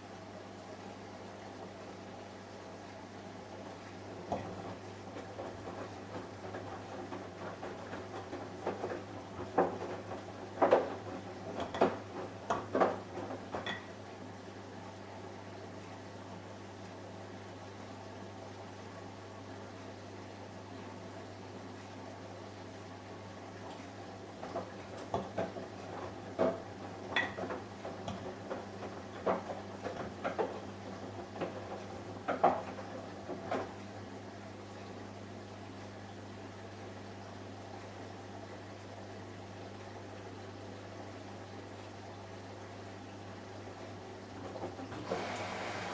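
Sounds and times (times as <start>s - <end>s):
washing machine humming: 0.0s - 45.9s.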